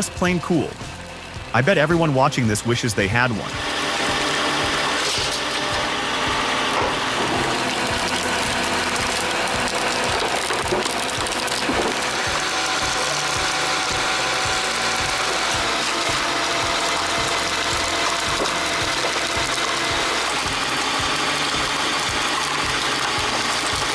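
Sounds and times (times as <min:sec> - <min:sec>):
log splitter clattering: 0:00.0 - 0:23.9.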